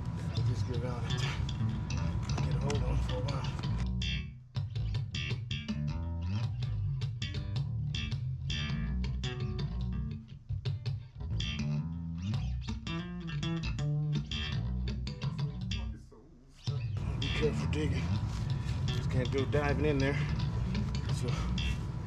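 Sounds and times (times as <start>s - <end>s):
bass guitar line: 0.0s - 22.0s
plucked guitar: 0.0s - 22.0s.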